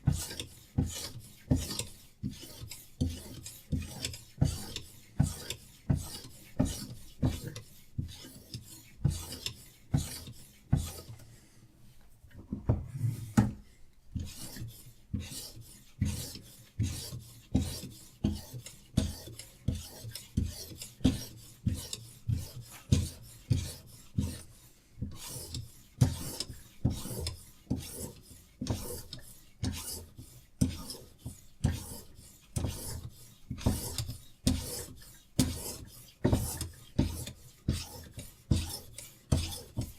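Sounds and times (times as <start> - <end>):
sharpening stone rasping on knife: 0.0 - 11.1, 14.2 - 39.9.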